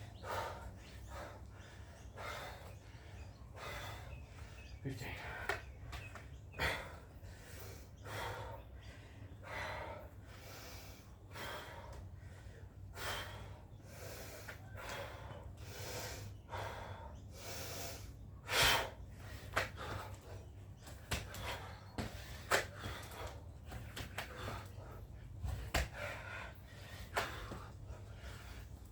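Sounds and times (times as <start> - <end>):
person breathing hard: 0.1 - 4.6, 6.6 - 20.6, 21.2 - 28.9.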